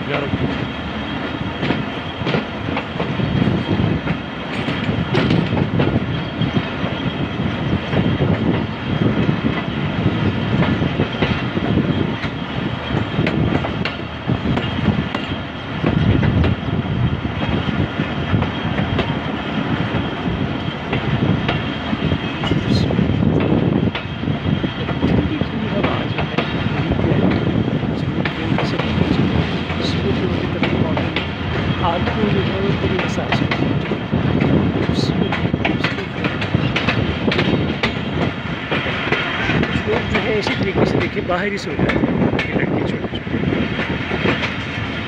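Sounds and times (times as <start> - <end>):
train wheels rumbling and rattling: 0.0 - 45.0.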